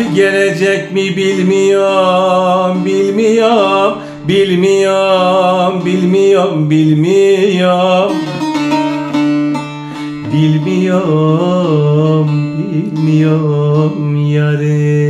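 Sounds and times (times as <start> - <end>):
man singing: 0.0 - 15.0
plucked lute: 0.0 - 15.0.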